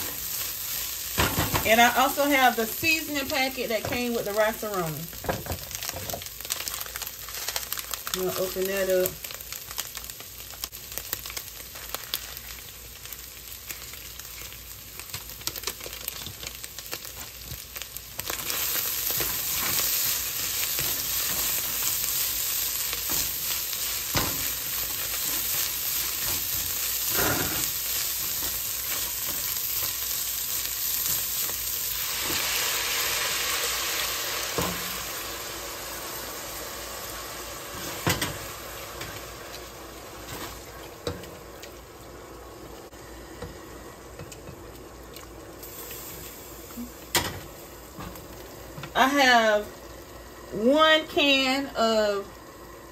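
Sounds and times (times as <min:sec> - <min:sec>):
meat and rice frying in a pot: 0:00.0 - 0:52.9.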